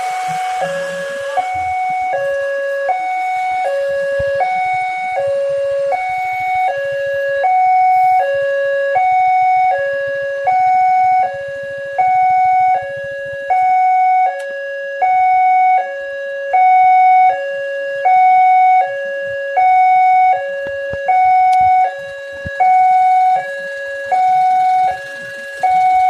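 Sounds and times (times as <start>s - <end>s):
two-tone level crossing siren: 0.0s - 26.0s.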